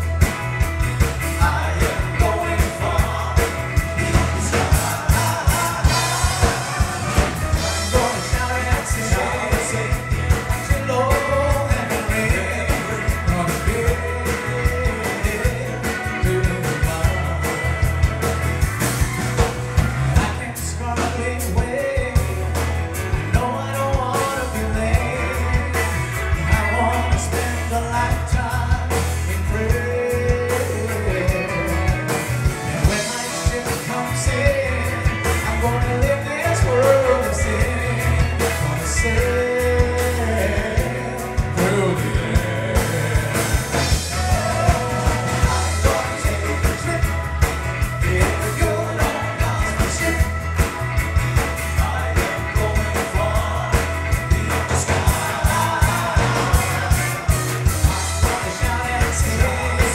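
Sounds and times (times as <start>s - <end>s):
gospel-country band playing: 0.0s - 59.9s
person singing: 1.0s - 18.3s, 20.2s - 59.9s.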